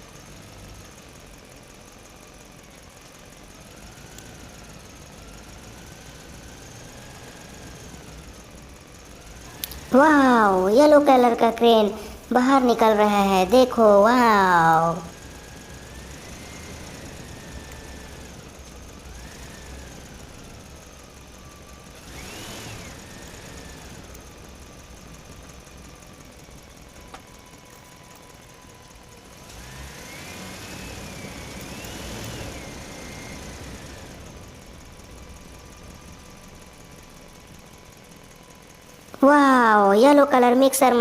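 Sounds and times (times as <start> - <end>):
toy crane electric motor whining: 0.0 - 41.0.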